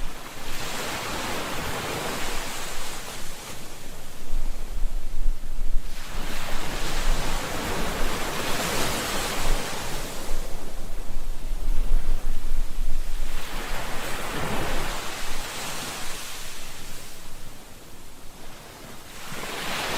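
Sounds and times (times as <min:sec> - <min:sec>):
ocean waves washing ashore: 0:00.0 - 0:19.9.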